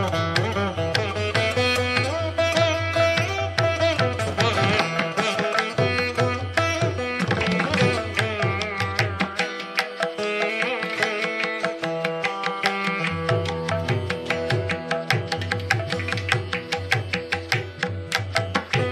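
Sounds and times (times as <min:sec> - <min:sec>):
veena plucked melody: 0:00.0 - 0:18.9.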